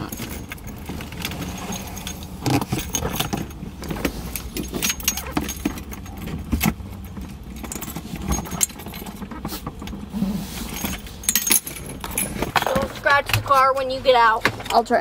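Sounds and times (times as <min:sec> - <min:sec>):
metal frame clinking and rattling: 0:00.0 - 0:13.8.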